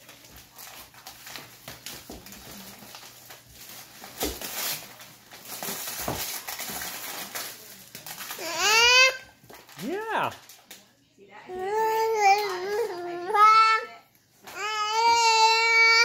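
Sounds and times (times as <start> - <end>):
wrapping paper rustling and tearing: 0.0 - 10.9, 11.7 - 13.7, 14.3 - 16.0.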